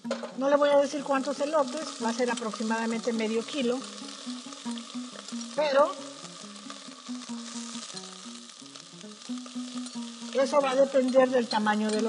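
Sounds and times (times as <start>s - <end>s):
corn sizzling in hot oil: 0.0s - 12.0s.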